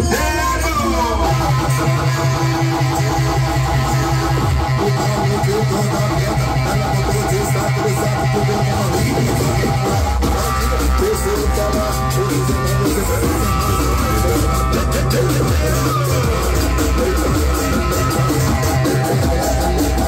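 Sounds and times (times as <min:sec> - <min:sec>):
loud music with heavy bass: 0:00.0 - 0:20.0.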